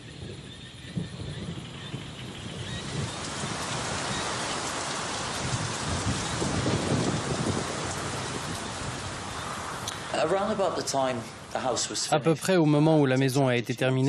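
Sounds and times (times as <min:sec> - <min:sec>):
low rumble of thunder: 0:00.0 - 0:12.0
heavy rain pouring: 0:00.0 - 0:14.0.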